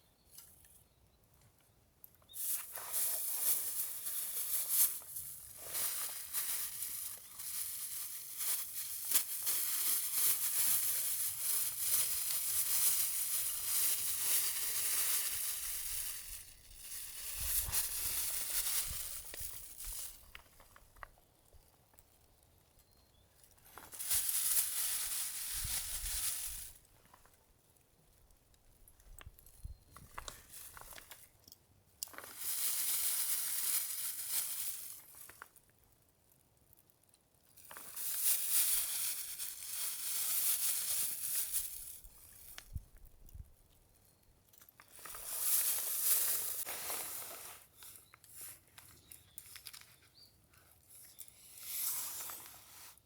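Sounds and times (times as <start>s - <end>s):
crinkling and rustling: 2.2s - 27.4s, 28.2s - 35.7s, 37.5s - 43.5s, 44.5s - 50.2s.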